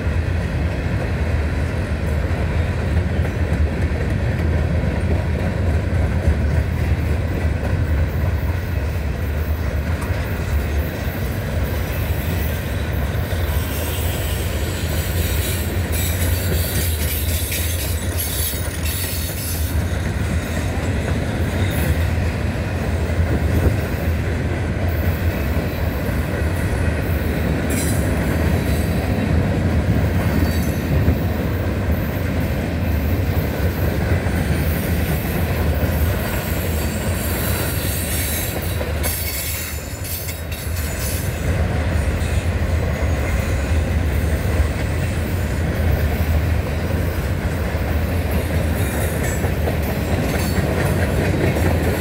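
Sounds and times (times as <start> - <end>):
steel wheels rumbling on rail: 0.0 - 52.0.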